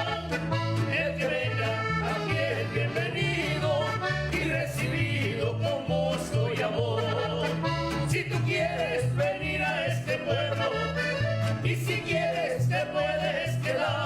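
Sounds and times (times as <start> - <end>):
accordion folk song: 0.0 - 14.0
bass line: 0.0 - 14.0.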